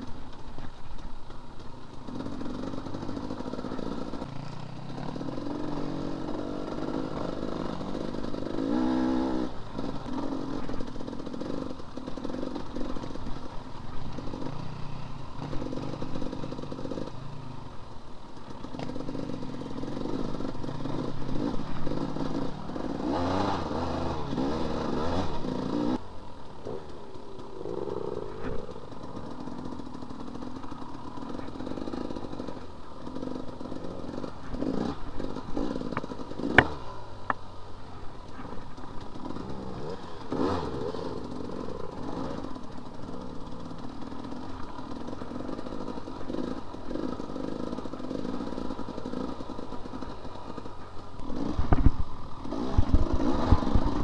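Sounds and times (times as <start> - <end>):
bike knocking and rattling: 0.0 - 54.0
dirt bike engine revving: 1.6 - 54.0.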